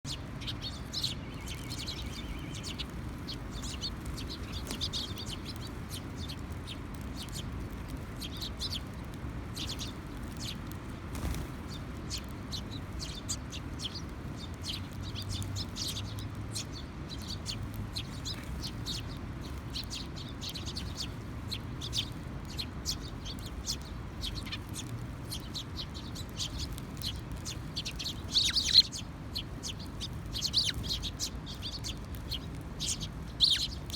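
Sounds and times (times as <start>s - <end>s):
sparrows chirping: 0.0s - 33.9s
low background rumble: 0.1s - 33.9s.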